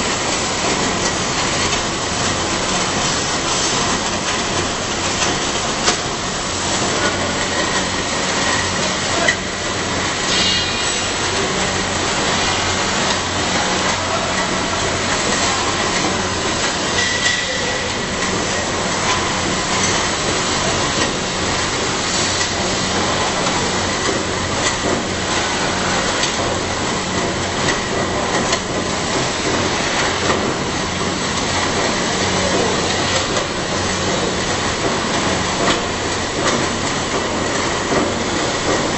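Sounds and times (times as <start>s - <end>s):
screw conveyor running: 0.0s - 38.9s.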